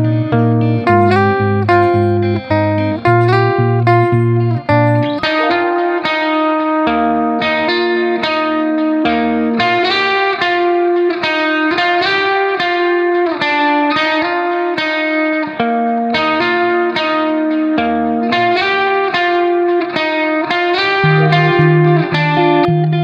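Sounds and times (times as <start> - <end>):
plucked guitar melody: 0.0 - 23.0.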